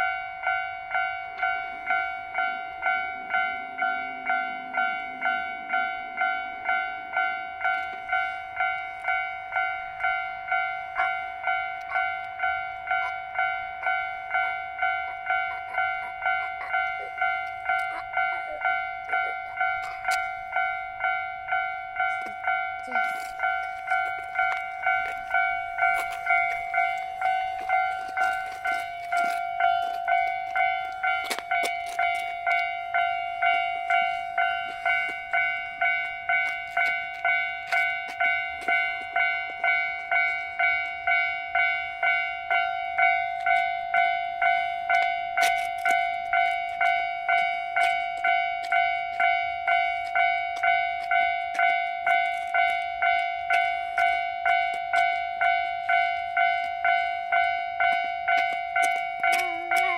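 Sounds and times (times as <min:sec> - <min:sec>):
level-crossing warning bell: 0:00.0 - 0:59.9.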